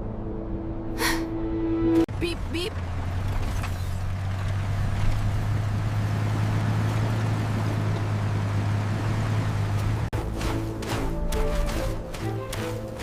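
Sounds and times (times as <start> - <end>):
vehicle engine rumbling drone: 0.0 - 13.0.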